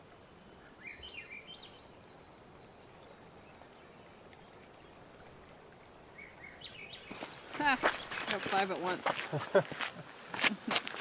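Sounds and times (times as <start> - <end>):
faint outdoor hiss: 0.0 - 11.0
songbird chirping: 0.0 - 11.0.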